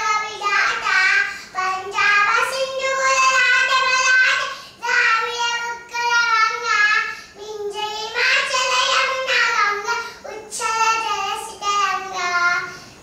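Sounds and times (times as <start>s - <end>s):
child singing alone: 0.0s - 12.8s.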